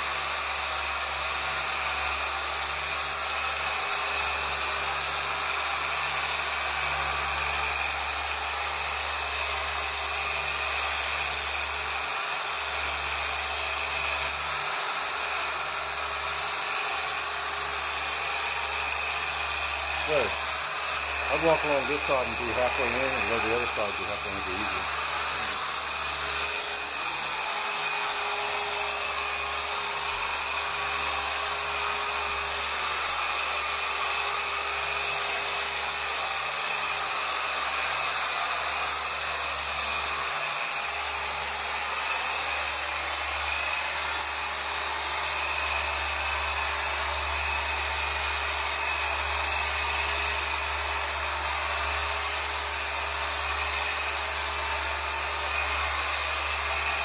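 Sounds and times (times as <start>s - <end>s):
orbital polisher running: 0.0s - 57.0s.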